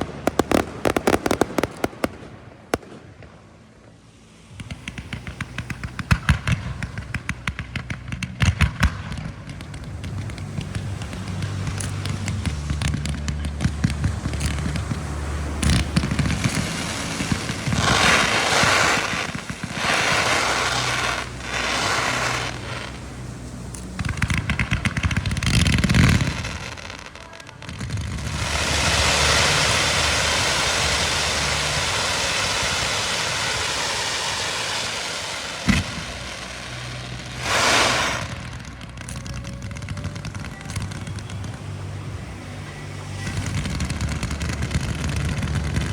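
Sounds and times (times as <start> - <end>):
fireworks hissing spray: 0.0 - 3.1, 4.2 - 8.6, 9.5 - 45.9
firework bang: 0.0 - 3.3, 4.5 - 41.5
fireworks crackling: 0.0 - 45.9
low engine-like hum: 0.0 - 45.9.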